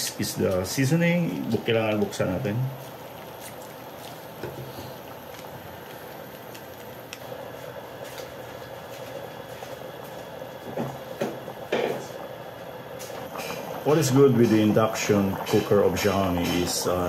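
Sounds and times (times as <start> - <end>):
water boiling in pot: 0.0 - 17.0.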